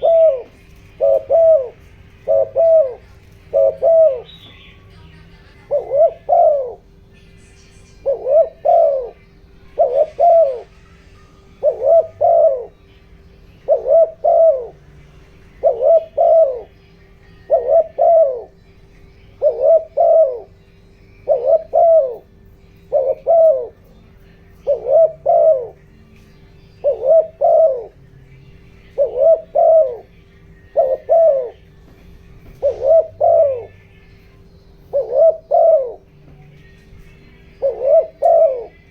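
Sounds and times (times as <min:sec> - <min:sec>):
dove cooing: 0:00.0 - 0:07.2, 0:07.9 - 0:38.9.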